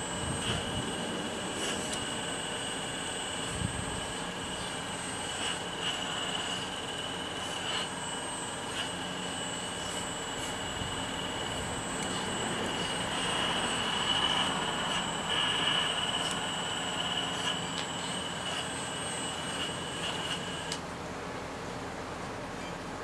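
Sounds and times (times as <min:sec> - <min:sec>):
small electric motor whining: 0:00.0 - 0:20.8.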